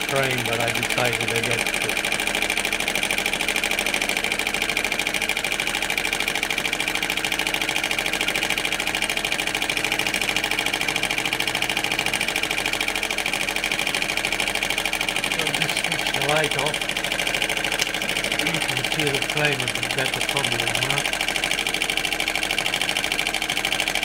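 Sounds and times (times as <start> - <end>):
model engine clattering: 0.0 - 24.0.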